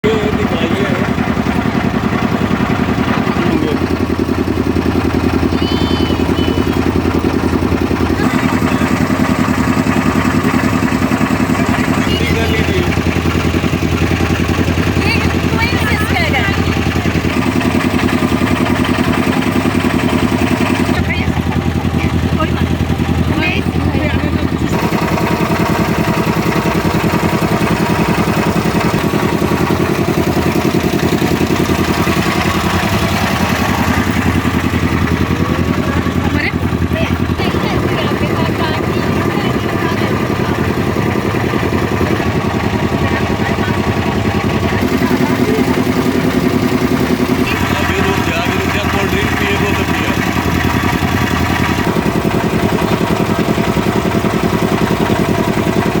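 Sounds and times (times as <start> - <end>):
motorboat engine chugging: 0.0 - 56.0.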